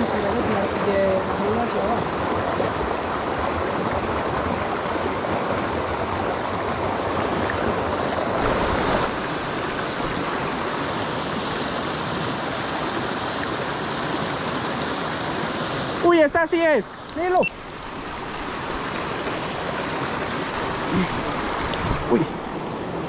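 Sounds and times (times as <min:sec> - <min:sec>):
creek rushing over rocks: 0:00.0 - 0:23.0.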